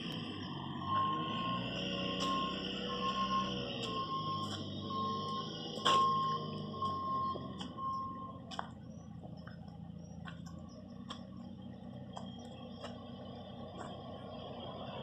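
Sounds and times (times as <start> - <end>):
footsteps on dirt road: 1.0 - 14.5.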